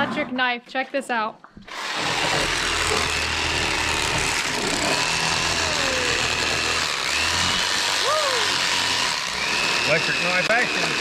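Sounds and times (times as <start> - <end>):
electric knife motor buzzing: 1.6 - 11.0.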